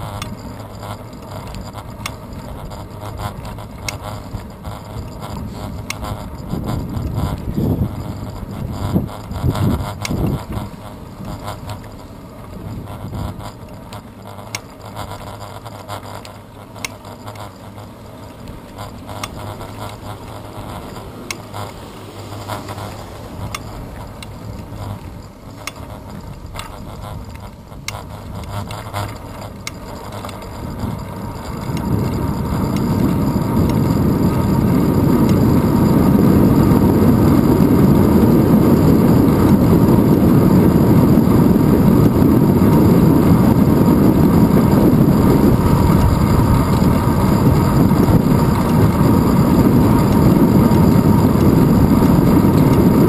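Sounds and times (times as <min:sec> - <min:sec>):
wind rumble on microphone: 0:00.0 - 0:16.1, 0:16.8 - 0:53.0
bicycle freewheel ticking: 0:00.0 - 0:53.0.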